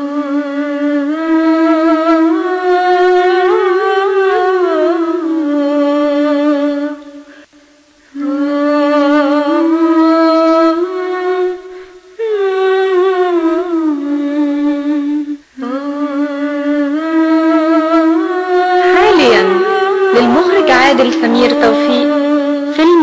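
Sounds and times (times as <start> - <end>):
person humming a melody: 0.0 - 7.3, 8.1 - 23.0.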